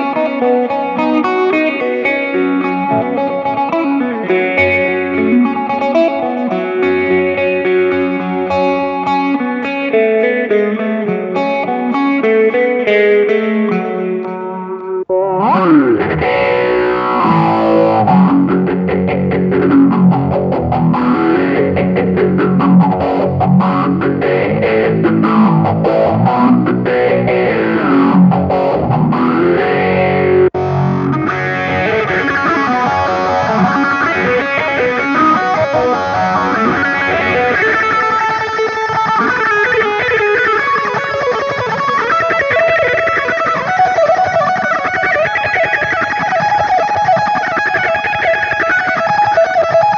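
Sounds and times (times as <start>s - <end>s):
distorted electric guitar runs: 0.0s - 49.9s.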